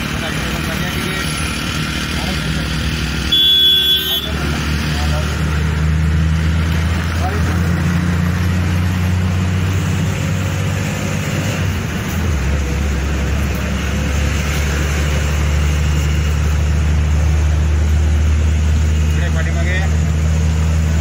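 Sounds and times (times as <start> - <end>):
road noise: 0.0 - 21.0
vehicle engine hum: 0.0 - 21.0.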